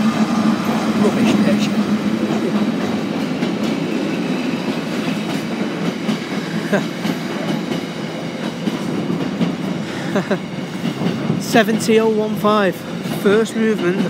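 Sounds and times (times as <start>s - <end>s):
freight train wheels rumbling on rail: 0.0s - 14.0s.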